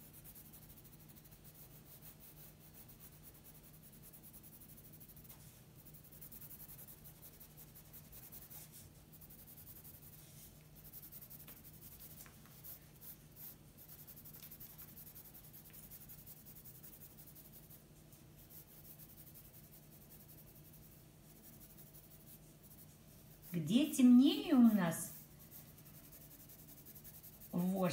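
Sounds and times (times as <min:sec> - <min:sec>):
pencil scratching on paper: 0:00.0 - 0:27.9.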